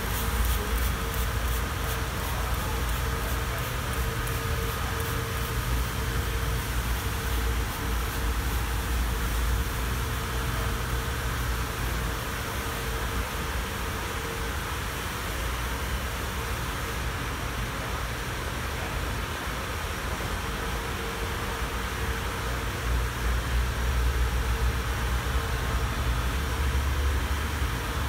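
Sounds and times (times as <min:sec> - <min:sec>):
mechanical hum with low rumble: 0:00.0 - 0:28.0.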